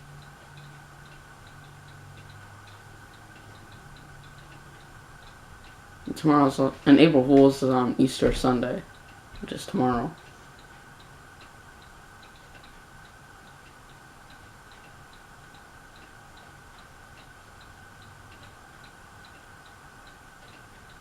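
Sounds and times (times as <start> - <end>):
ceiling fan whine: 0.0 - 21.0
fan light clicking: 0.0 - 21.0.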